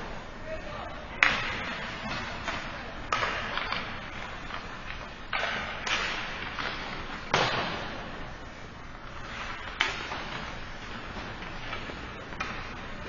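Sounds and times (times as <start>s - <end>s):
steady rink hiss: 0.0s - 13.0s
hockey sticks and puck cracking: 1.2s - 8.3s, 8.9s - 13.0s.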